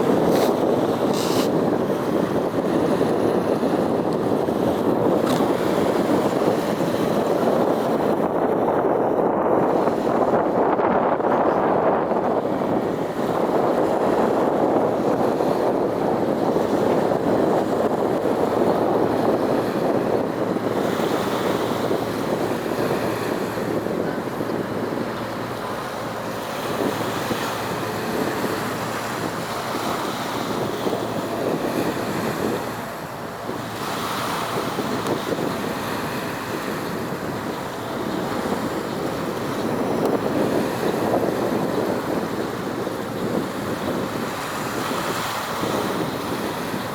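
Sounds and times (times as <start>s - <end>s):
water rushing: 0.0s - 8.7s, 12.1s - 46.9s
wind on microphone: 0.0s - 46.9s.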